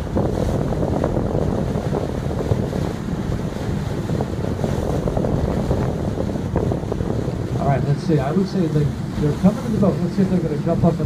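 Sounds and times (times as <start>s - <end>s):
boat engine: 0.0s - 11.0s
rushing water: 0.0s - 11.0s
wind buffeting microphone: 0.0s - 11.0s.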